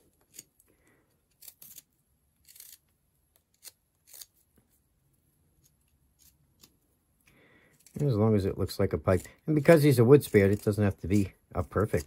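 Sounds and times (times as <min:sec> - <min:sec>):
knife scraping wood: 0:00.0 - 0:04.8, 0:05.5 - 0:06.8, 0:07.8 - 0:12.0.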